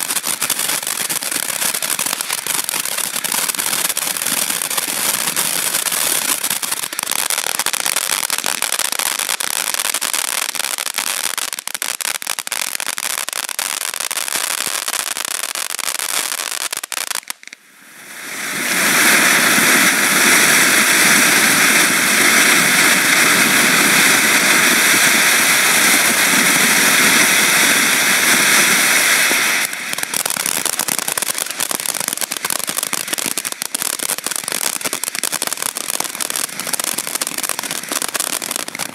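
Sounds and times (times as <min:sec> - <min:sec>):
firework fountain crackling: 0:00.0 - 0:38.9
firework fountain hissing: 0:00.0 - 0:38.9.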